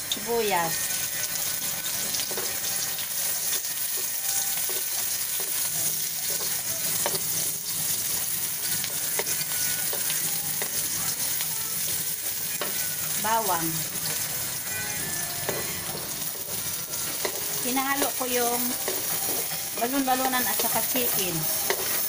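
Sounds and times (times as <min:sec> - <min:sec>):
onions sizzling in hot oil: 0:00.0 - 0:22.0
spatula scraping a wok: 0:00.5 - 0:22.0.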